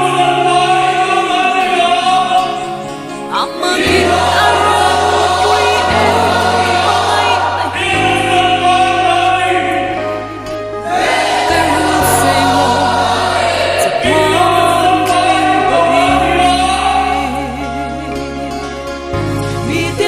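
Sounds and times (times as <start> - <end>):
choir singing gospel: 0.0 - 20.0
sustained bass accompaniment: 0.0 - 20.0.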